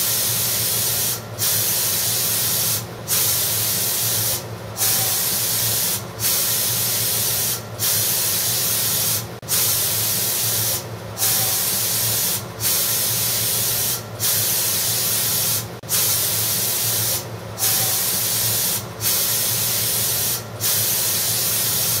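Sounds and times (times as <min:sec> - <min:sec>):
spray hissing in bursts: 0:00.0 - 0:22.0.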